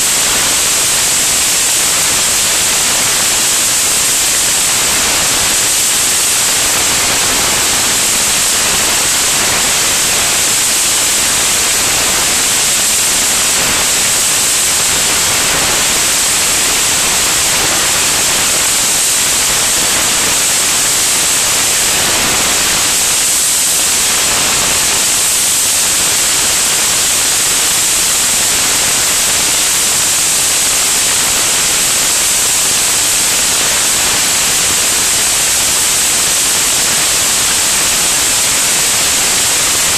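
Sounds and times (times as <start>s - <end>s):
rushing hiss of airflow: 0.0s - 39.9s.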